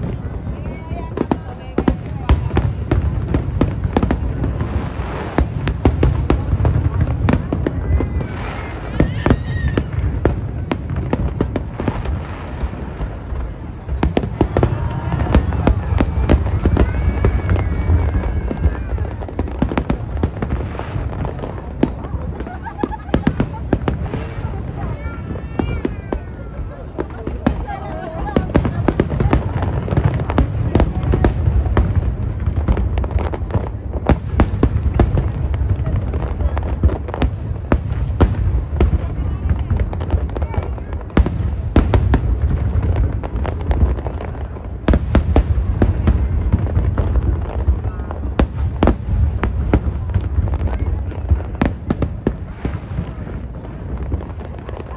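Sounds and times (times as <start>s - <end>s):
fireworks bursting with cracks: 0.0s - 54.9s.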